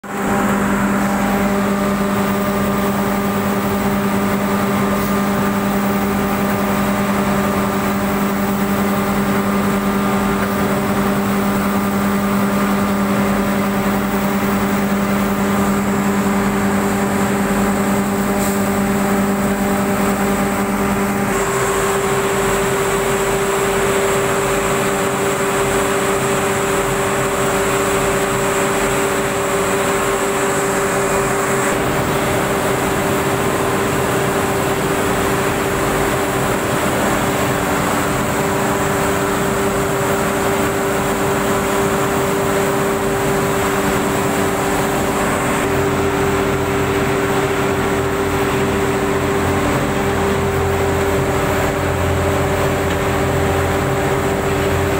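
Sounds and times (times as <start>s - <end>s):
grinding machine humming: 0.0s - 54.9s.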